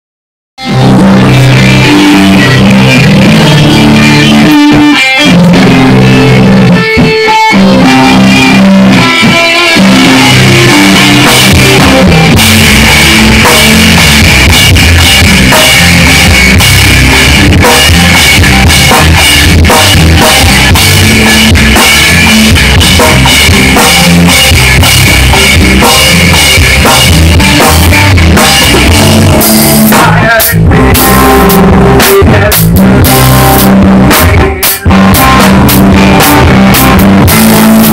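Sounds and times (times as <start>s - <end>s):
electric guitar: 0.6s - 37.9s
drums and cymbals: 6.6s - 37.9s.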